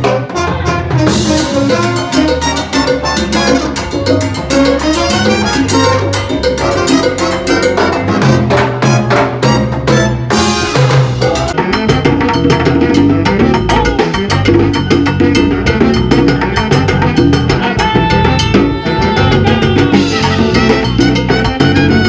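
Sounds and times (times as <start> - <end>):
horn lines: 0.0 - 14.5, 15.3 - 22.0
conga and timbales hits: 0.0 - 22.0
salsa band playing: 0.0 - 22.0.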